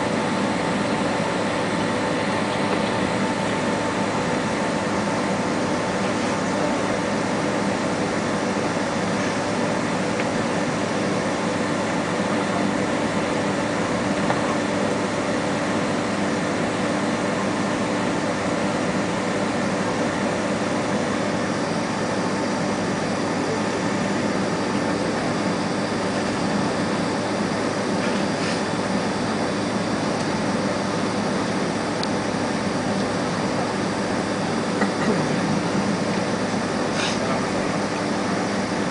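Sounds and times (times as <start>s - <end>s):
aircraft cabin engine idle hum: 0.0s - 38.9s.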